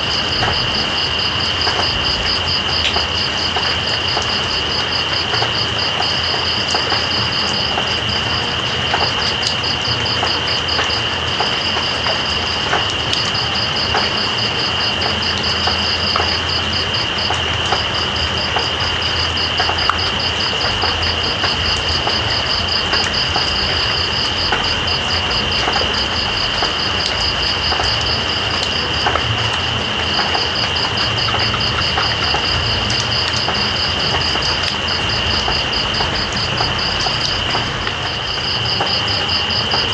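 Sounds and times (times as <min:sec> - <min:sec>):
drips ticking: 0:00.0 - 0:39.9
steady rain: 0:00.0 - 0:39.9
cricket chirping in rapid pulses: 0:00.1 - 0:39.9.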